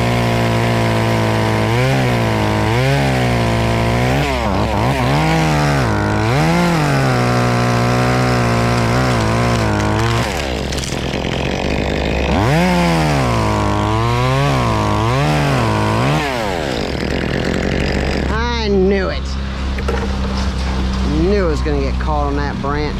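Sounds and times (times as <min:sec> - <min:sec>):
chainsaw revving: 0:00.0 - 0:22.9.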